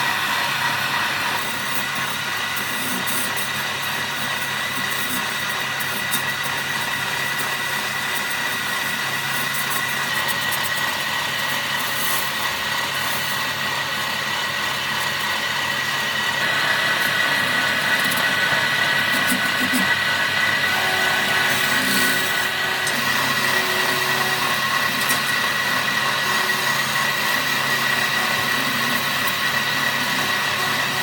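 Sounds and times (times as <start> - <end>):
power tool whining: 0.0 - 31.0.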